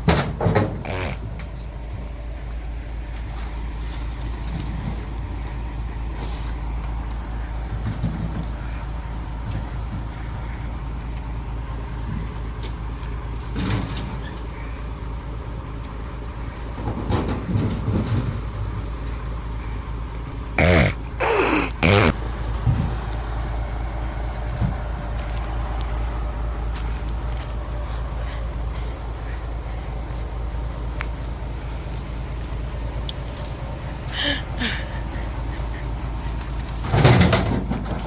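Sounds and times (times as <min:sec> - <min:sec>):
truck engine rumbling: 0:00.0 - 0:38.0.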